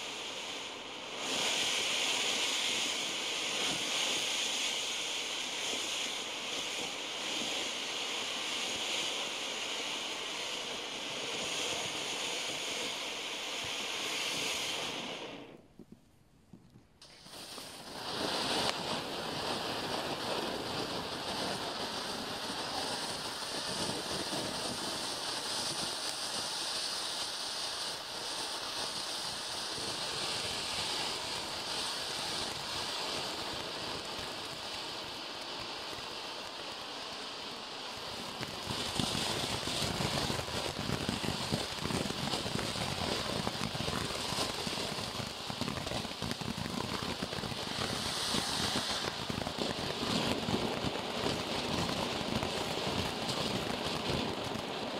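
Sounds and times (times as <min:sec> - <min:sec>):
firework fountain hissing: 0:00.0 - 0:15.9, 0:17.0 - 0:54.9
light crackle: 0:00.0 - 0:54.9.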